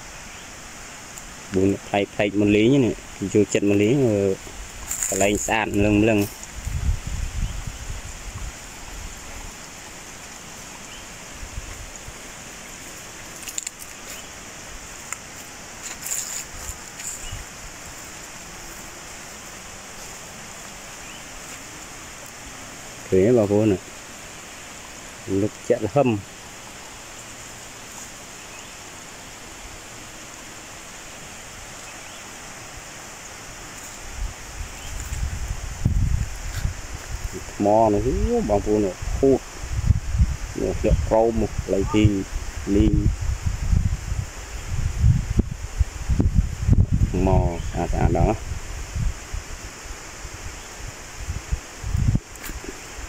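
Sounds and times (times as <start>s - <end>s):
even hiss: 0.0s - 53.0s.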